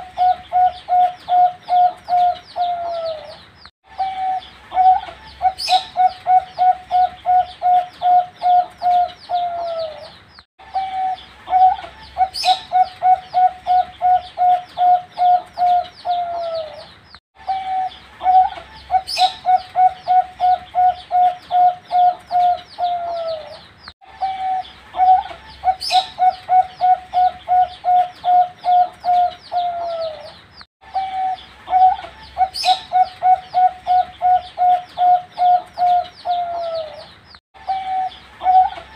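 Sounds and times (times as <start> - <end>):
dove cooing: 0.0 - 3.4, 4.0 - 38.9.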